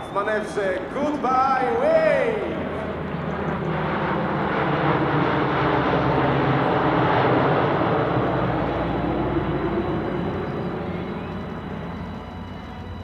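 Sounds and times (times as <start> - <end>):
turboprop aircraft droning past: 0.0 - 13.0.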